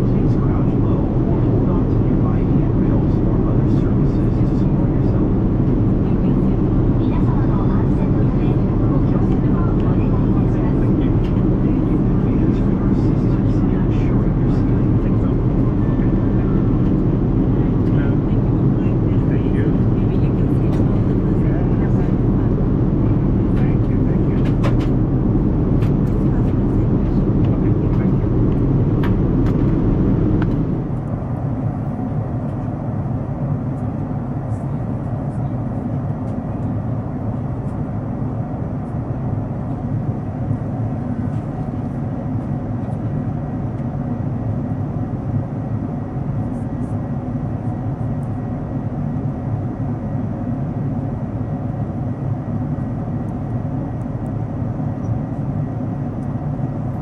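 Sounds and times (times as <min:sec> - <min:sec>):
airliner cabin roar: 0:00.0 - 0:57.0.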